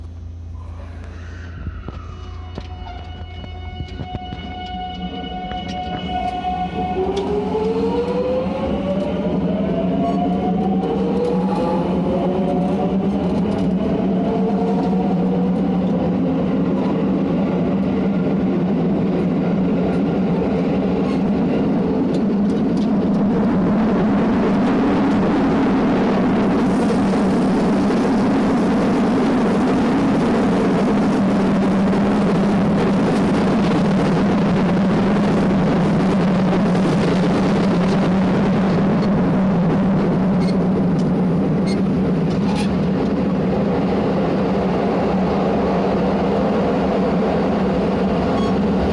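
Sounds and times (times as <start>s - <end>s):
train wheels rolling: 1.1s - 48.9s.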